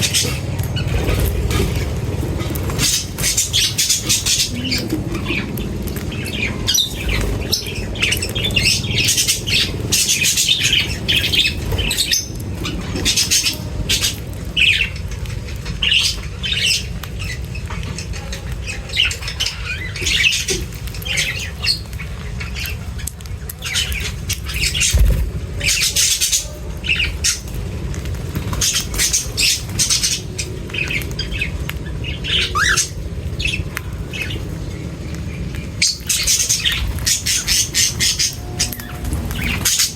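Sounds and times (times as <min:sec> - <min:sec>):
birds squawking and chirping: 0:00.0 - 0:39.9
steady low rumble: 0:00.0 - 0:39.9.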